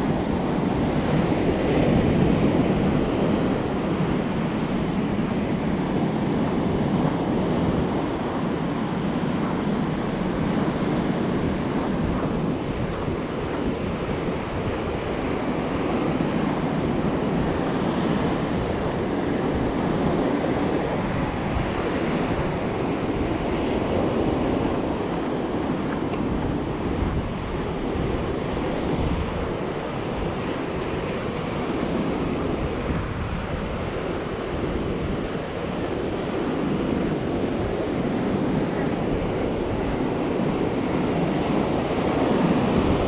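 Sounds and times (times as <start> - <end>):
ocean surf breaking: 0.0 - 43.0
wind buffeting microphone: 0.0 - 43.0.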